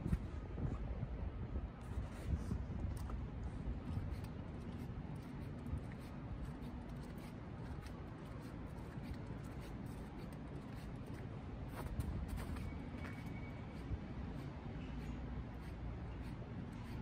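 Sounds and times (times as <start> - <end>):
low city rumble: 0.0 - 17.0.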